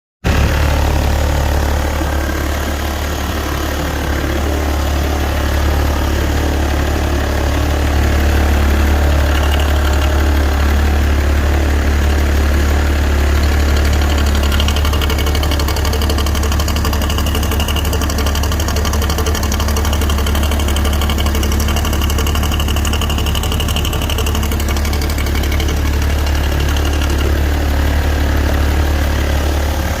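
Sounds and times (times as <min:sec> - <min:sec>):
car engine idling: 0:00.2 - 0:30.0
engine knocking: 0:00.2 - 0:30.0.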